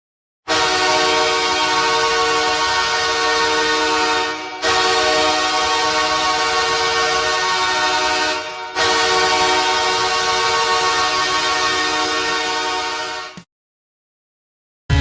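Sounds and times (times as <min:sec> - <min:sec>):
goal horn blasting: 0:00.5 - 0:13.4.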